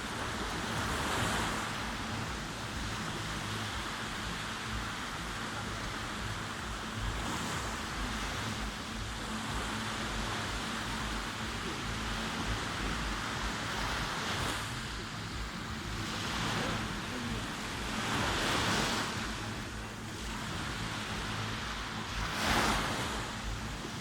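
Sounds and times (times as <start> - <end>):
sea waves washing: 0.0 - 24.0
wind rumble on microphone: 0.0 - 24.0.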